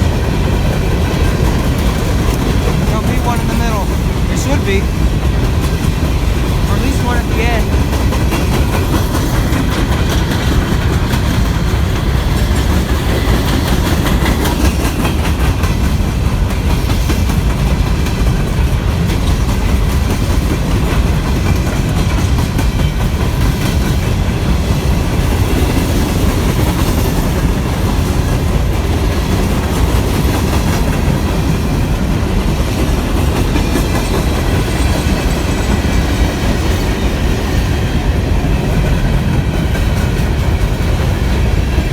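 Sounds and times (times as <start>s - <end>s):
wheels clicking over rail joints: 0.0s - 6.7s, 7.6s - 41.9s.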